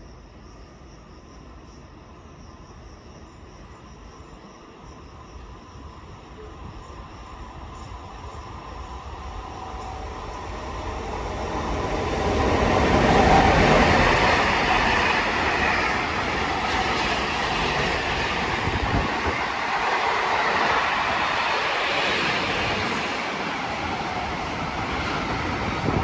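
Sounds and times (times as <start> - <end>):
train wheels on rails: 3.1 - 26.0.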